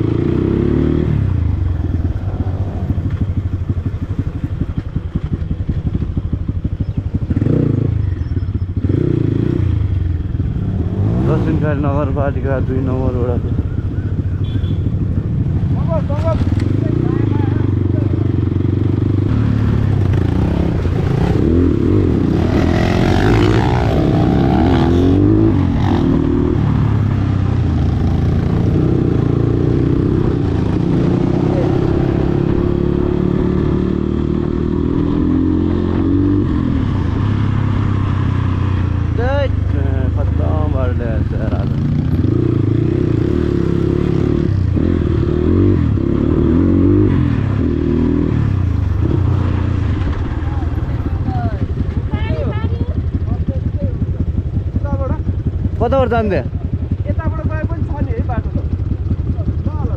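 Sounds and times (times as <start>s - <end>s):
dirt bike engine revving: 0.0s - 4.8s, 7.2s - 13.8s, 14.4s - 56.8s.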